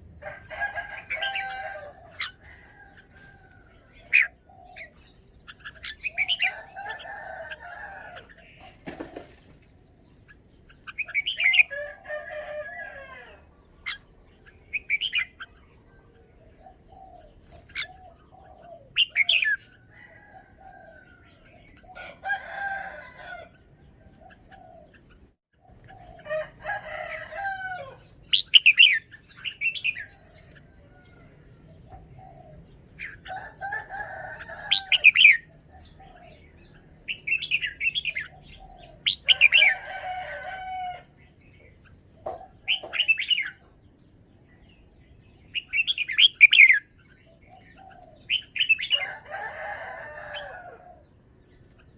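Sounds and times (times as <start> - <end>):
bird singing: 0.0 - 51.9.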